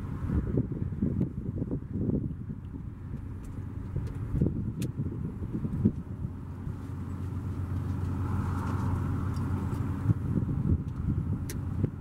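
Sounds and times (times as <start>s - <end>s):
diesel locomotive engine drone: 0.0s - 12.0s.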